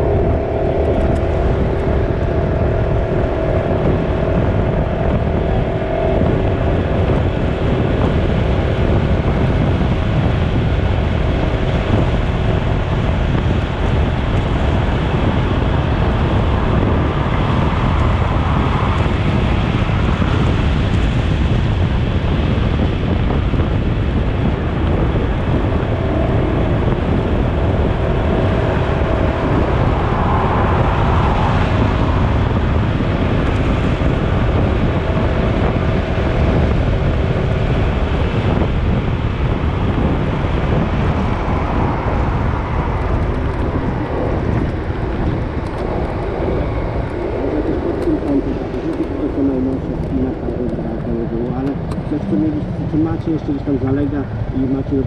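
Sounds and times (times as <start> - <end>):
vehicle low rumble: 0.0 - 55.0.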